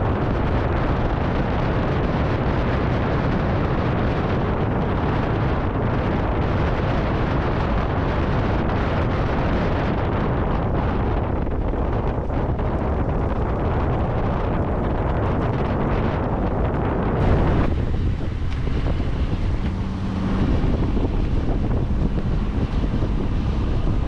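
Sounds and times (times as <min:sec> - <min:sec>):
car driving rumble: 0:00.0 - 0:24.0.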